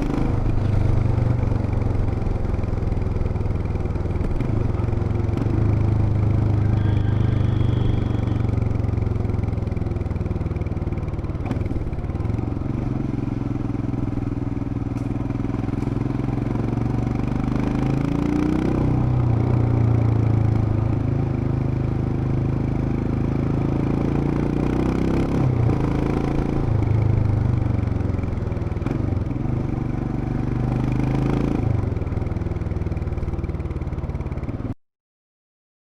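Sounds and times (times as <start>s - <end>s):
motorcycle engine accelerating: 0.0s - 34.8s.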